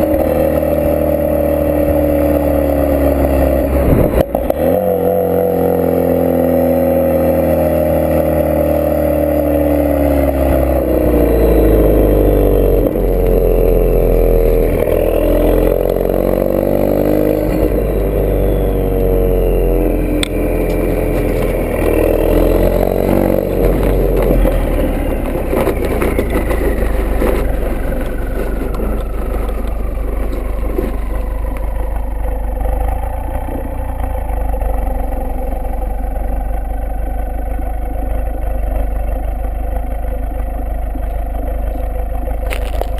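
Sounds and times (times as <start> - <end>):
car engine drone through exhaust: 0.0 - 42.9.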